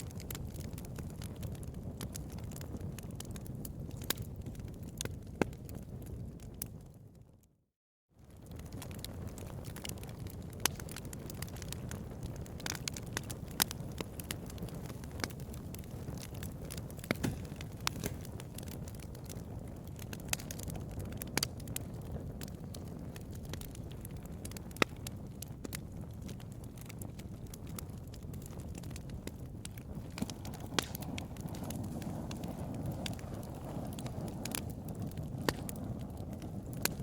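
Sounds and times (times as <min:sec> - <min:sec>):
bonfire crackling and popping: 0:00.0 - 0:07.5, 0:08.2 - 0:37.0.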